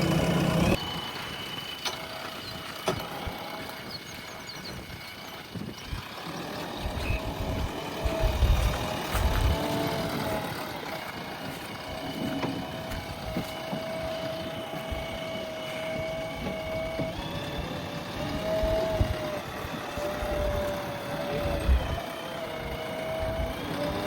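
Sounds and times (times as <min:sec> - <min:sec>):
backhoe loader engine running: 0:00.0 - 0:24.0
hydraulic whine: 0:00.0 - 0:24.0.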